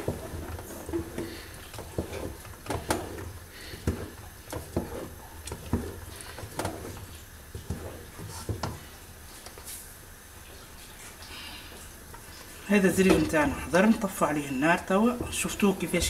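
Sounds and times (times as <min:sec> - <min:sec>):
wooden spoon stirring thick paste: 0:00.0 - 0:09.7, 0:11.8 - 0:16.0.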